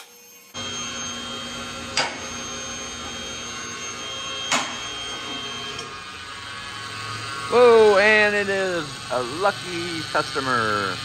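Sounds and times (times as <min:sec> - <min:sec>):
machine running with high whine: 0:00.0 - 0:11.0.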